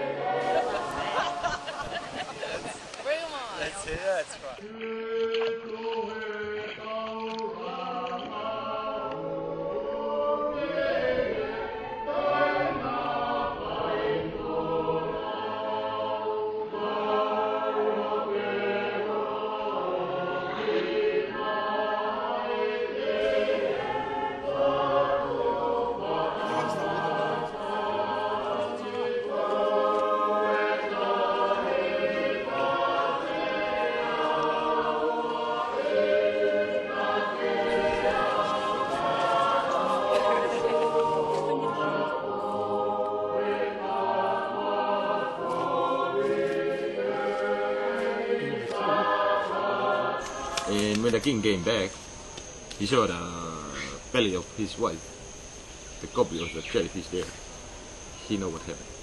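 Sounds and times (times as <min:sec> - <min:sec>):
choir singing in harmony: 0:00.0 - 0:57.2.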